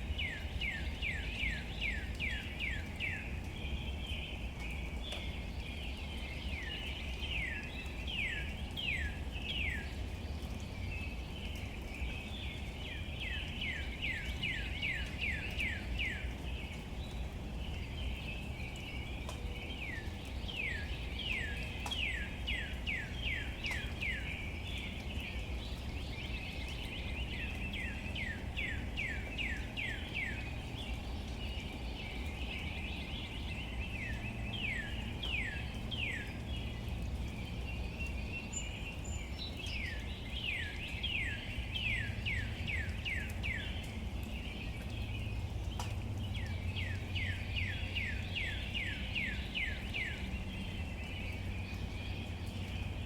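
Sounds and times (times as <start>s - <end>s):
rain pattering: 0.0s - 53.0s
water dripping: 0.0s - 53.0s.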